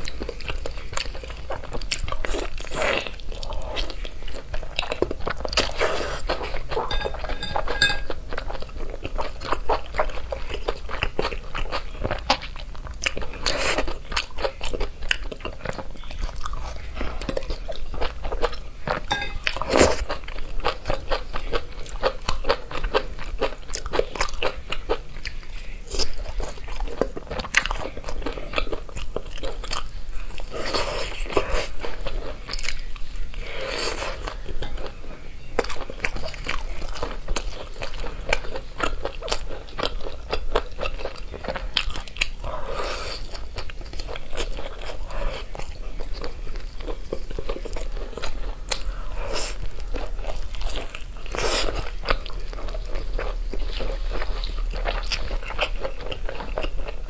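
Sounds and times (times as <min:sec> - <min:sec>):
chewing and wet mouth sounds: 0:00.0 - 0:57.0.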